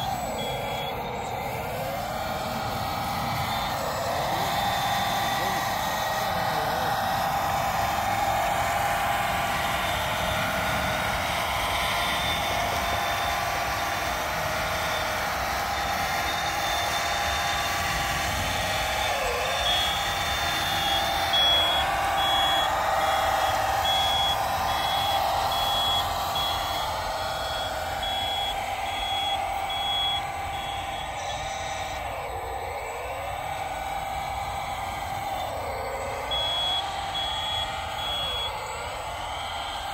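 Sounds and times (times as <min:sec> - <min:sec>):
electric motor and hydraulic whine: 0:00.0 - 0:39.9
reversing beeper: 0:00.0 - 0:39.9.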